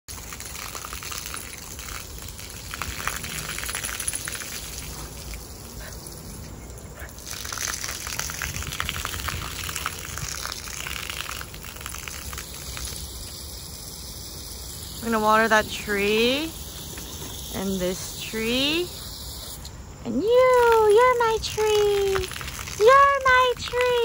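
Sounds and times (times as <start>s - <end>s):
hose water splashing on concrete: 0.1s - 24.0s.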